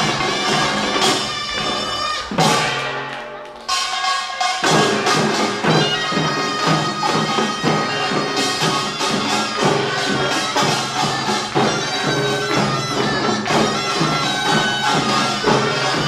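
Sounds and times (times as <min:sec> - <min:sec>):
percussion band gongs and drums: 0:00.0 - 0:16.0
reed pipe melody: 0:00.0 - 0:16.0.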